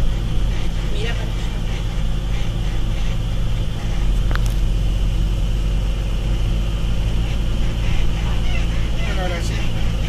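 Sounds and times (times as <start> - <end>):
engine and tyre rumble: 0.0 - 10.0.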